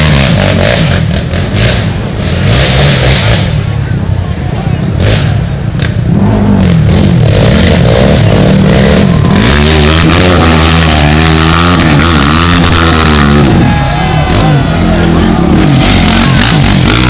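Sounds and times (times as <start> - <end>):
atv engines revving: 0.0 - 17.0.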